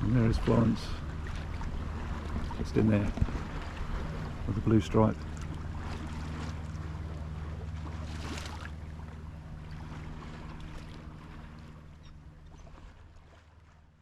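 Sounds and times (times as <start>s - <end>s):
boat engine running: 0.0s - 14.0s
water noise: 0.0s - 14.0s
wind: 0.0s - 14.0s.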